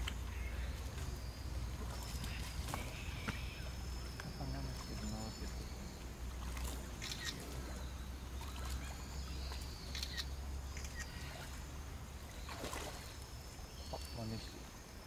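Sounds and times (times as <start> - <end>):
animals wading in water: 0.0 - 15.0
low steady rumble: 0.0 - 15.0
small birds chirping: 0.0 - 15.0.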